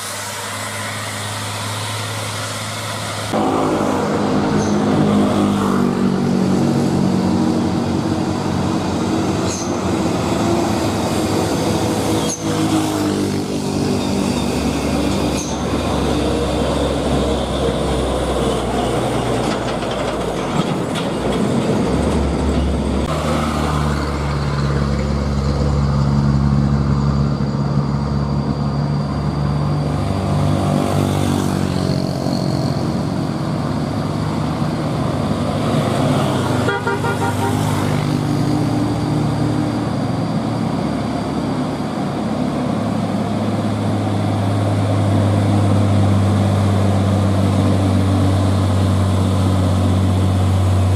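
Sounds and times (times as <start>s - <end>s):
large truck engine running: 0.0s - 50.9s.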